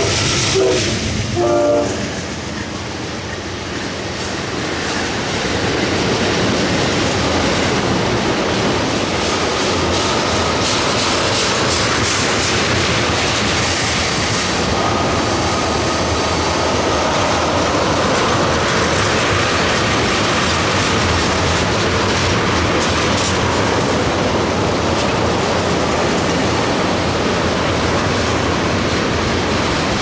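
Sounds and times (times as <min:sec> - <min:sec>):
freight train rolling past: 0:00.0 - 0:30.0
wheels clicking over rail joints: 0:02.0 - 0:14.7, 0:16.3 - 0:30.0.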